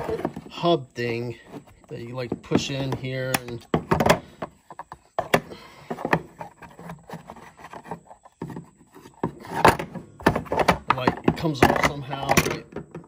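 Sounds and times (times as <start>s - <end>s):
plastic parts clicking and knocking: 1.5s - 13.0s.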